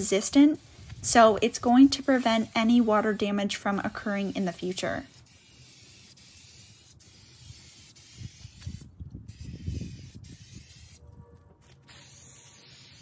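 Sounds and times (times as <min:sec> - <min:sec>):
aerosol spray can hissing: 0:00.5 - 0:11.0, 0:11.9 - 0:13.0.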